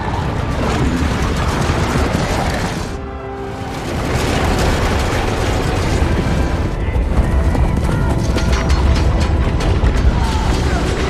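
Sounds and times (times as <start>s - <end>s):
battle film music: 0.0s - 11.0s
booming rumble of army moving: 0.0s - 11.0s.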